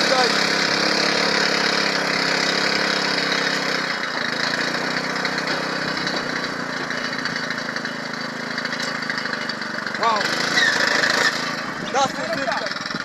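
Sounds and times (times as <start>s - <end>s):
machine engine running: 0.0s - 13.0s.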